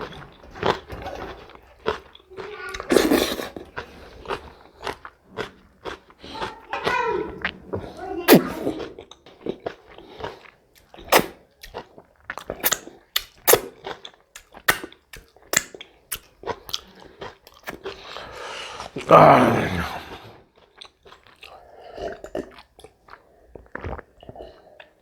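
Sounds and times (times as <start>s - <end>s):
crunchy chewing: 0.0s - 19.1s, 20.0s - 25.0s.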